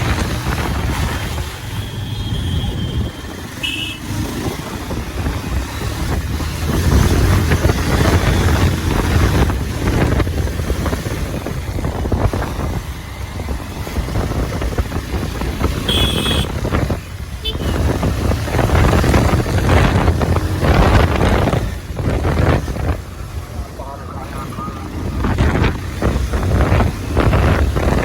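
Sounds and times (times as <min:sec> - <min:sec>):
motorcycle engine: 0:00.0 - 0:28.0
wind noise on microphone: 0:00.0 - 0:28.0.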